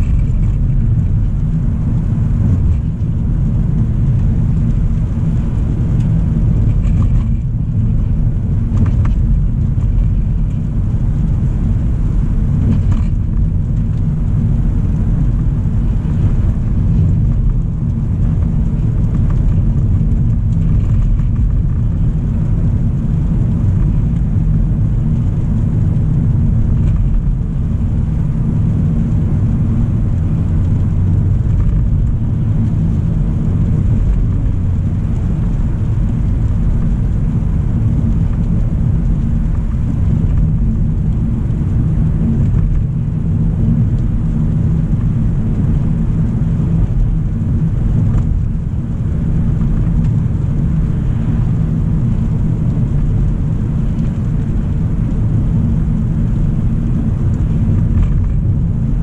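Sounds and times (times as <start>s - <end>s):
car road rumble: 0.0s - 59.0s.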